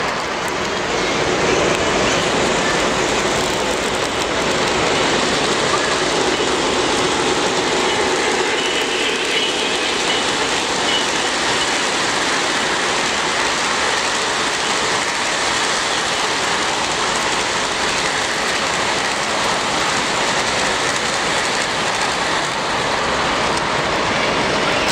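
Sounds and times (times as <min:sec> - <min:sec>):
model train wheels clattering on track: 0:01.4 - 0:23.8.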